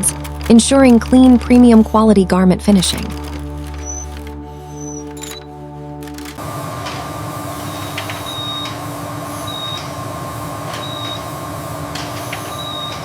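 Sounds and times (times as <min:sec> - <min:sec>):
factory machinery humming: 0:00.0 - 0:13.0.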